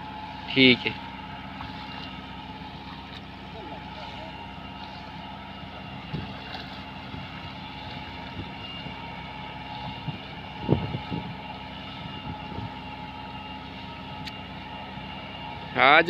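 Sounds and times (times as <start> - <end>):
engine-like drone: 0.0 - 16.0.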